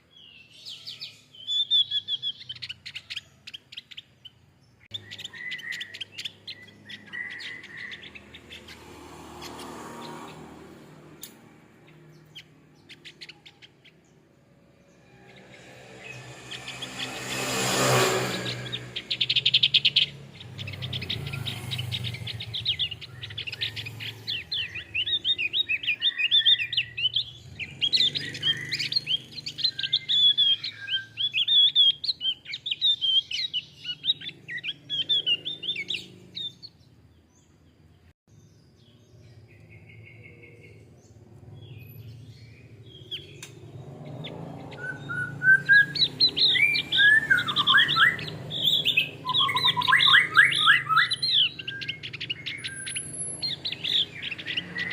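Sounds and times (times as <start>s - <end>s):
bird singing high chirps: 0.0s - 54.9s.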